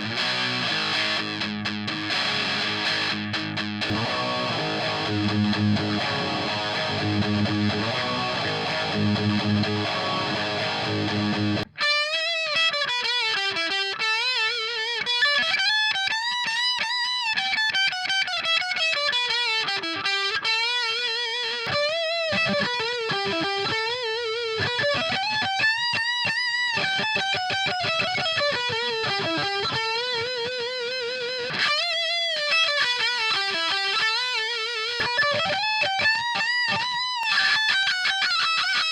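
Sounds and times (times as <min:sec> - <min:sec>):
distorted electric guitar riff: 0:00.0 - 0:38.9.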